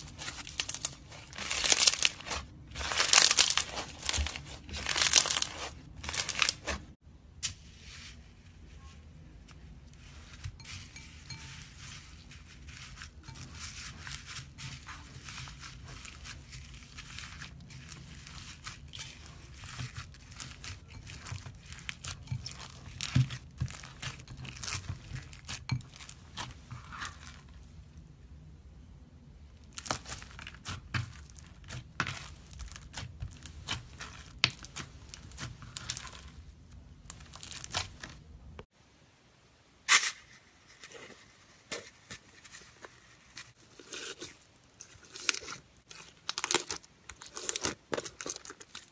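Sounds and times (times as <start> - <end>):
foam bead slime crackling: 0.0 - 27.7, 29.6 - 38.7, 43.2 - 48.9.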